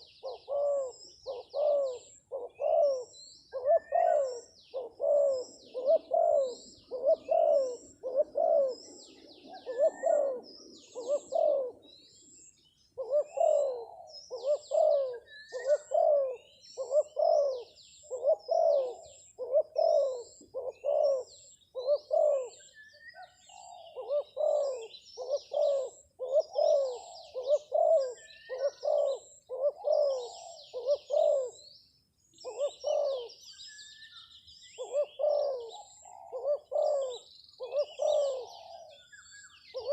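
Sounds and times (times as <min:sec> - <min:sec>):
dove cooing: 0:00.0 - 0:31.7, 0:32.4 - 0:33.6, 0:34.7 - 0:39.9
small birds chirping faintly: 0:00.0 - 0:39.9.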